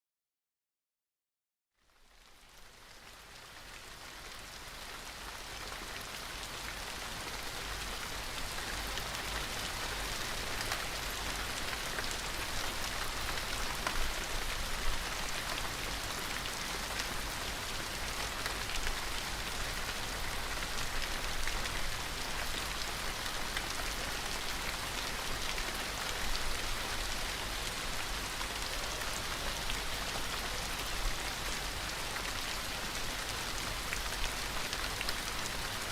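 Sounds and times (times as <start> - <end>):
steady rain falling: 1.8 - 35.9.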